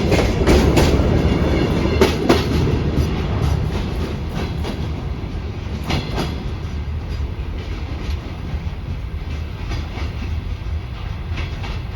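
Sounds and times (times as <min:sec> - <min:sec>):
freight train rumbling: 0:00.0 - 0:11.9
wheels clicking over rail joints: 0:00.0 - 0:11.9.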